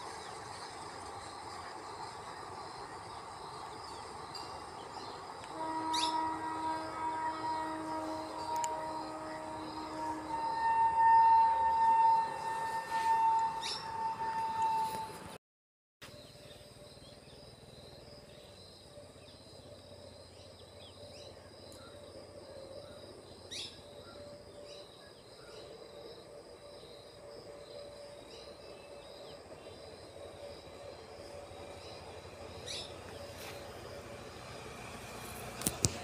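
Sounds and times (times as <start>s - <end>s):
insects trilling: 0.1s - 15.0s, 16.2s - 36.0s.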